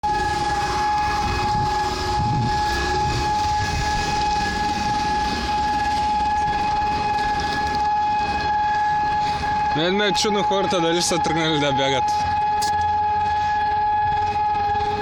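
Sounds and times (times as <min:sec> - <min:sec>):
siren steady high tone: 0:00.0 - 0:15.0.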